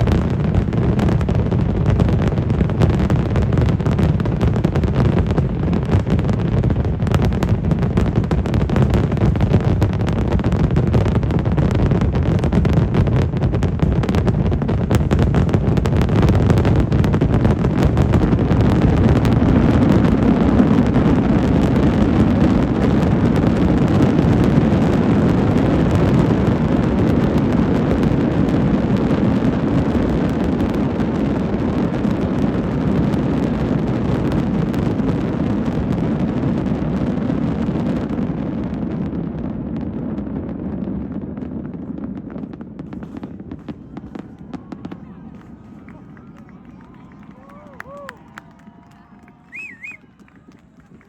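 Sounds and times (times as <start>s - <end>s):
fireworks bursting: 0.0s - 51.0s.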